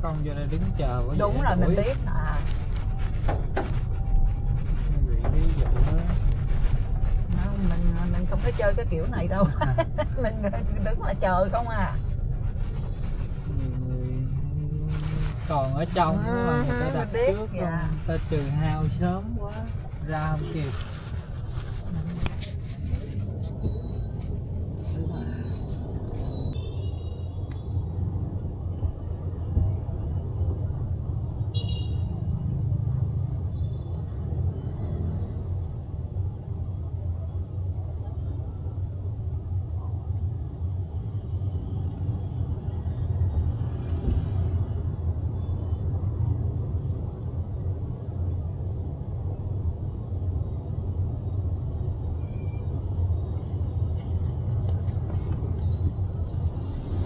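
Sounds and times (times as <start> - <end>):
low traffic rumble: 0.0 - 57.0.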